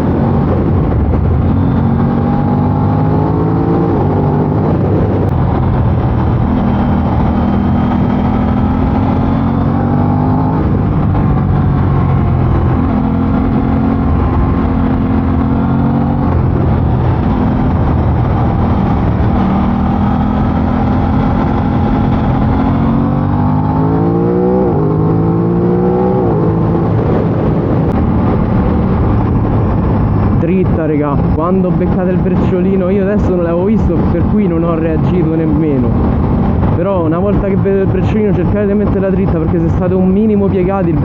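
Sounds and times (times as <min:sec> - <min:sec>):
motorcycle engine revving through gears: 0:00.0 - 0:33.0, 0:34.0 - 0:39.0
wind rush: 0:00.0 - 0:41.0.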